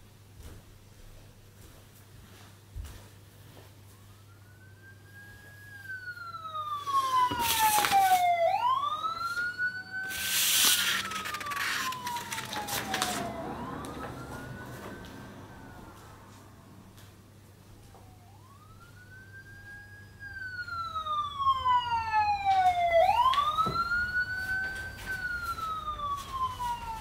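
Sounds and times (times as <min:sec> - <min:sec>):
emergency siren wailing: 0:03.9 - 0:27.0.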